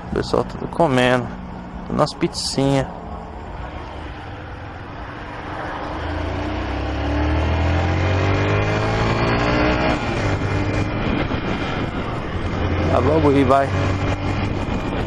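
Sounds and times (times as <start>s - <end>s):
wind noise: 0.0s - 15.0s
motorcycle engine accelerating: 2.9s - 15.0s.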